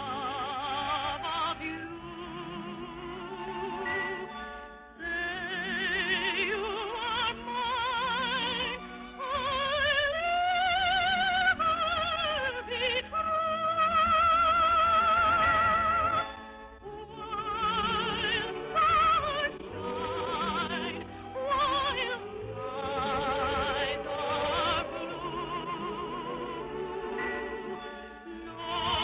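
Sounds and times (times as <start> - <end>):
musical accompaniment: 0.0 - 29.0
operetta singing with wide vibrato: 0.0 - 29.0.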